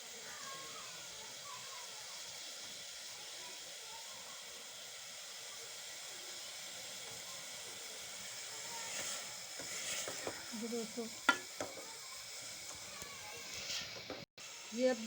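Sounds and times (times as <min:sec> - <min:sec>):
pot boiling with hiss: 0:00.0 - 0:15.0.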